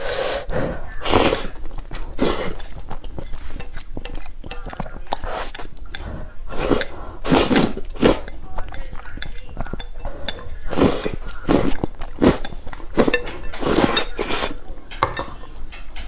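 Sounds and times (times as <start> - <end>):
chewing: 0.0 - 16.0
noodles being slurped: 0.0 - 16.0.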